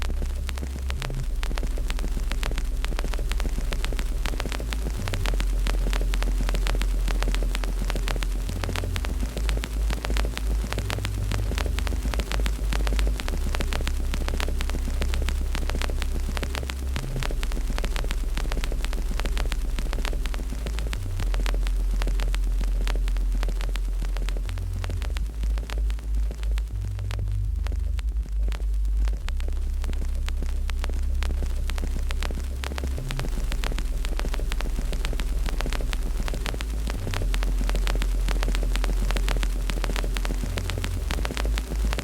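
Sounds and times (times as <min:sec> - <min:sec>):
low fire rumble: 0:00.0 - 0:42.0
wood fire crackling and popping: 0:00.0 - 0:42.0.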